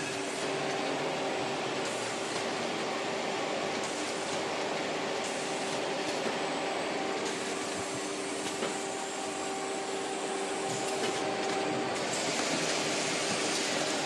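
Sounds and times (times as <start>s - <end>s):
packing machine hum: 0.0s - 14.0s.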